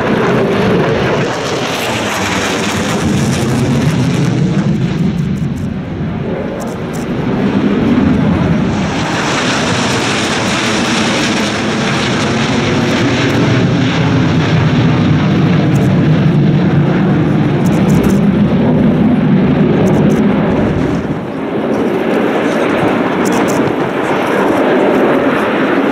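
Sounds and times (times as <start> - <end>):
jet fighters flying over: 0.0 - 25.9.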